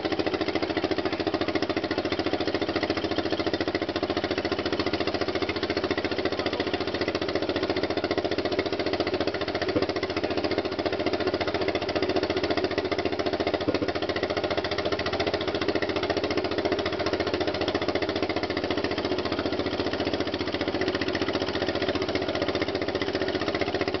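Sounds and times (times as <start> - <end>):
stationary engine running: 0.0 - 24.0.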